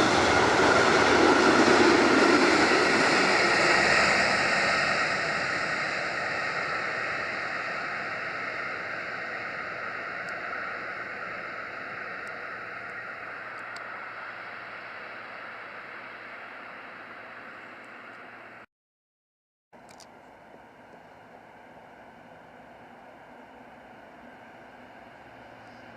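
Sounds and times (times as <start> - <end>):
passenger train rushing: 0.0 - 18.6, 20.4 - 25.9.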